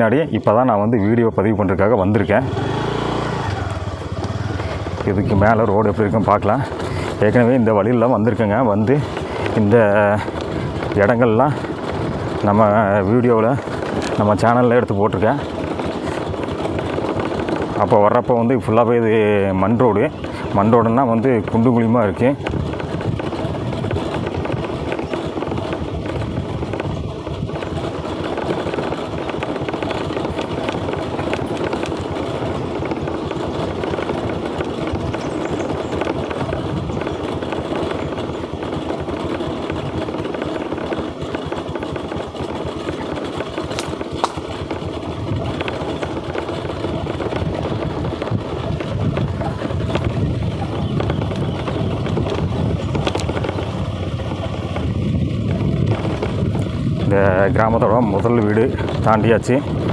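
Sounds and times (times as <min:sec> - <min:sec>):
road noise: 0:00.0 - 0:59.9
vehicle engine running: 0:00.0 - 0:59.9.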